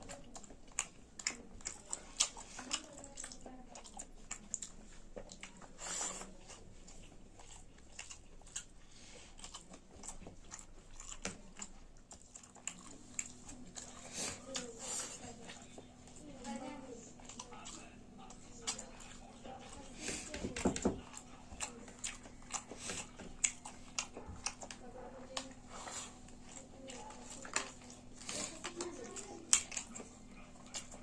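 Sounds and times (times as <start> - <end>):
mouth clicks and crunches: 0.0 - 16.2, 17.2 - 31.0
wet chewing and biting: 0.0 - 31.0.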